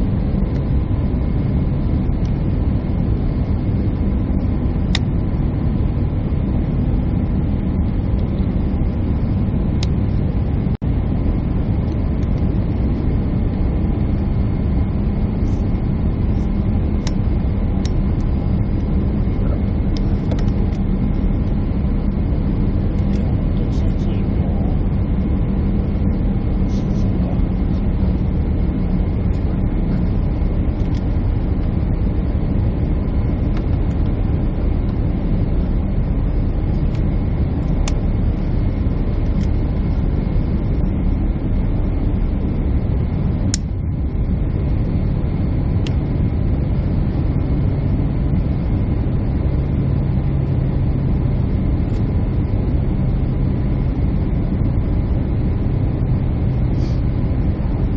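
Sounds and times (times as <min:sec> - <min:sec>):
constant low hum: 0:00.0 - 0:57.9
jet engine and airflow noise: 0:00.0 - 0:57.9.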